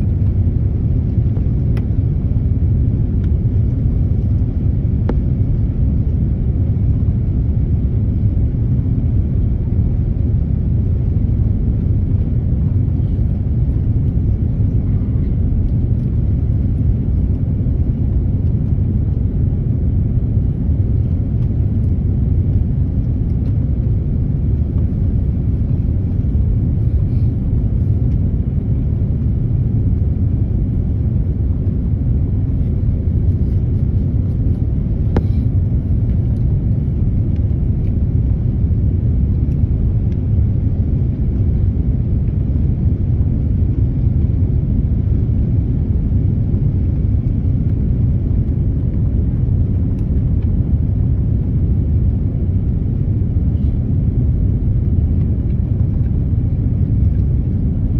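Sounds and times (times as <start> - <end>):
airliner cabin rumble: 0.0 - 57.9.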